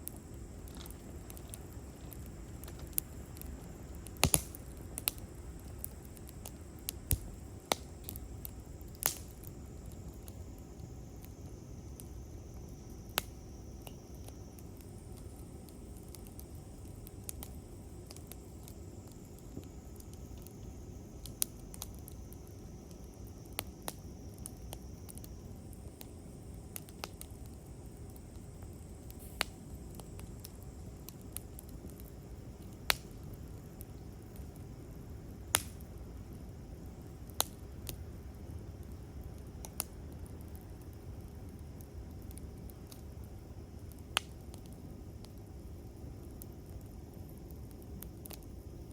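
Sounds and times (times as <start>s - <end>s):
campfire wood crackling: 0.0s - 48.9s.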